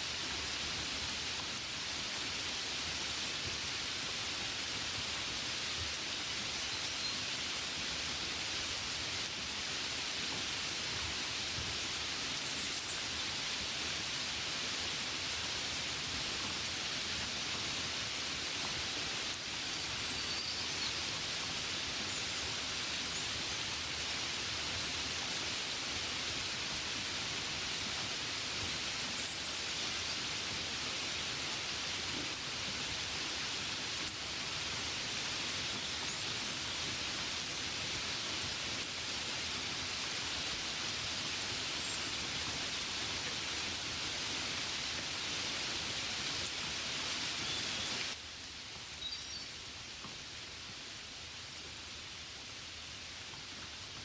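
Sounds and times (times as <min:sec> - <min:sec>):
gentle rainfall: 0:00.0 - 0:54.0.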